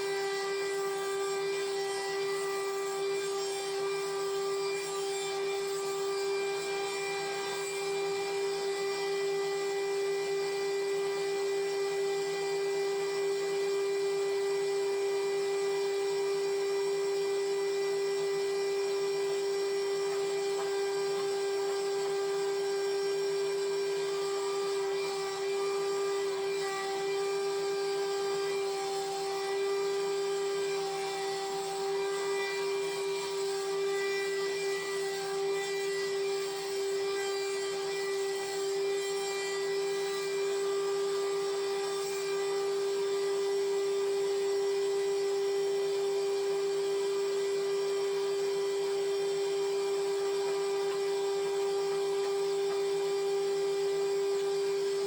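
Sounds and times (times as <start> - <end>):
sawmill saw whining: 0.0 - 55.0.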